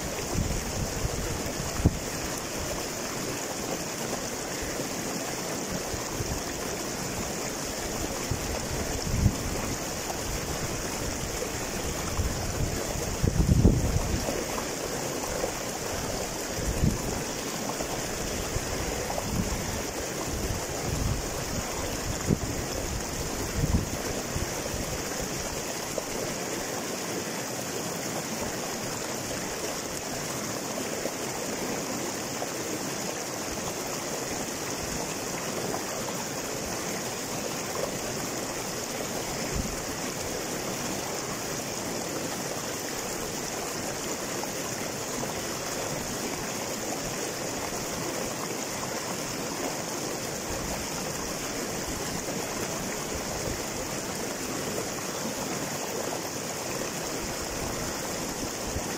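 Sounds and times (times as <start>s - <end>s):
river water rushing over boulders: 0.0s - 58.9s.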